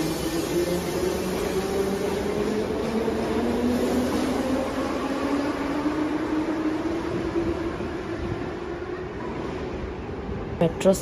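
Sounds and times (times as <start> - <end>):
metro train rushing: 0.0 - 11.0.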